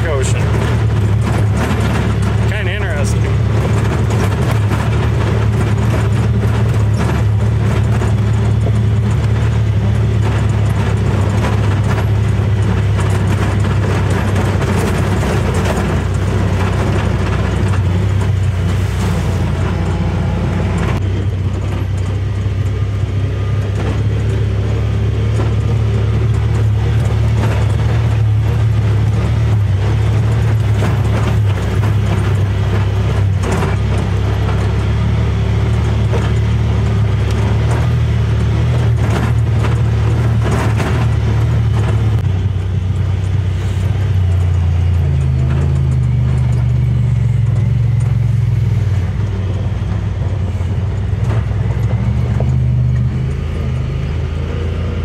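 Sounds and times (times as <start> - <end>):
body rattles and stone clicks: 0.0 - 55.0
vehicle engine running: 0.0 - 55.0.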